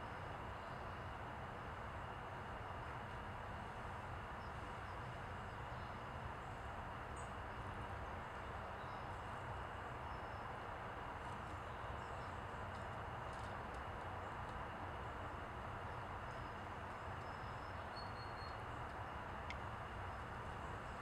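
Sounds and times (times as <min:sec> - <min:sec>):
outdoor hiss and rumble: 0:00.0 - 0:21.0.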